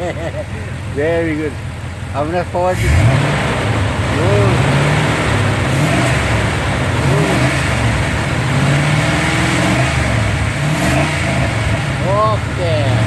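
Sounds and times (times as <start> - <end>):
car engine revving lightly: 0.3 - 13.0.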